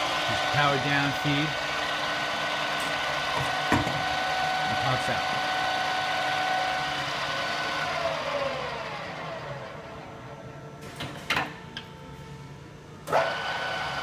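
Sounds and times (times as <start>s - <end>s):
drill press gear whine: 0.0s - 10.7s, 13.0s - 14.0s.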